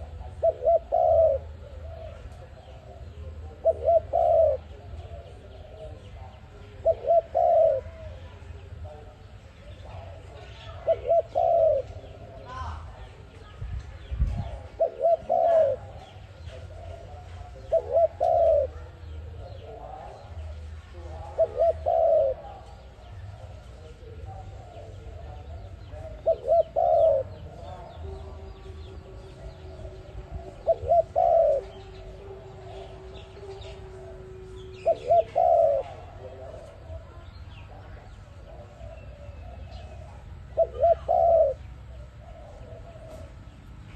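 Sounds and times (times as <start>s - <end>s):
dove cooing: 0.0s - 13.2s, 14.3s - 43.9s.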